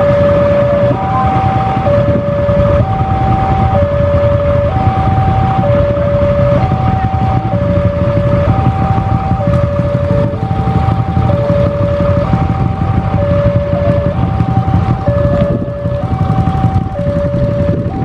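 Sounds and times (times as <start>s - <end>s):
heavy low rumble: 0.0s - 18.0s
level-crossing warning alarm: 0.0s - 18.0s.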